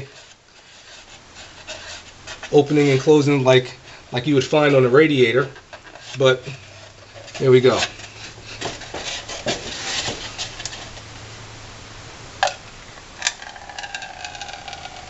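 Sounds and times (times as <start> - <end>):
foam cups clicking and rustling: 0.0 - 11.1, 12.4 - 15.0.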